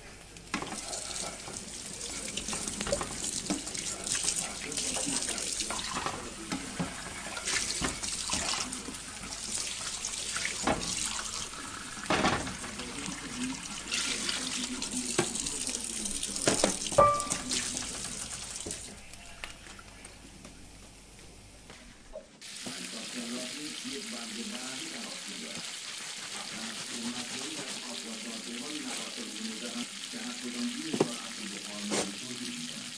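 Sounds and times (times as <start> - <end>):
food sizzling in a pot: 0.6 - 18.9, 22.4 - 32.9.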